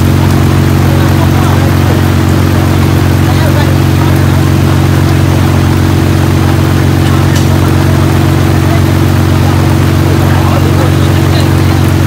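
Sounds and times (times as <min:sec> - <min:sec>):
heavy rain hissing: 0:00.0 - 0:12.0
off-road vehicle engine running: 0:00.0 - 0:12.0.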